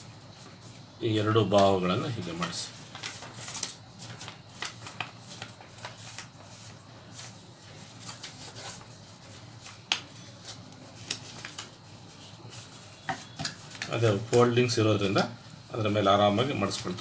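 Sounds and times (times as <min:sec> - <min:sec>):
paper rustling and crackling: 0:00.4 - 0:15.2.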